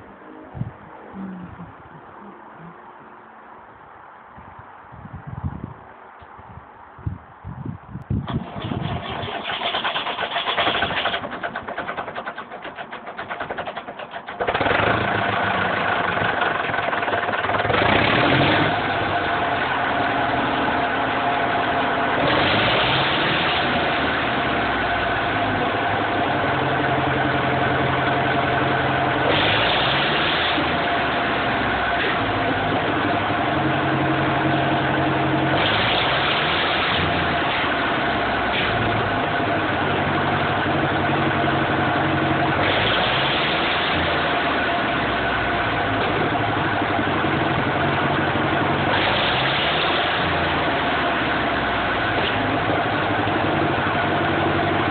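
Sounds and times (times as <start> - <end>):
diesel tractor engine idling: 8.2 - 54.9
engine throttle blips: 8.2 - 54.9.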